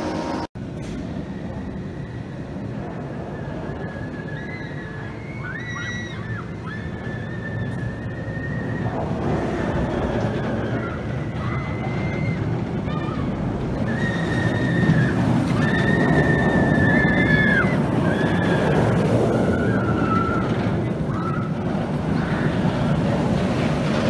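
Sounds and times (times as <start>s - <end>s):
roller coaster rumbling: 0.0s - 24.0s
riders screaming: 3.7s - 23.3s.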